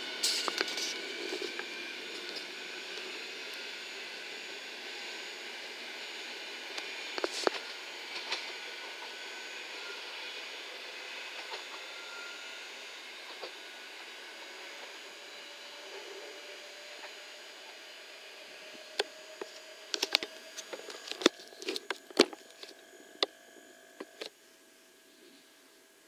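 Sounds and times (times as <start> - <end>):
electric train rumble and hiss: 0.0 - 26.0
faint whining tones: 0.0 - 26.0.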